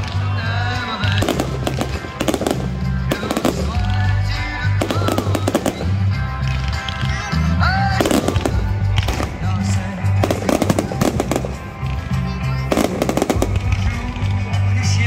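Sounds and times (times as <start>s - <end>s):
fireworks bangs and crackles: 0.0s - 15.0s
music with heavy bass: 0.0s - 15.0s.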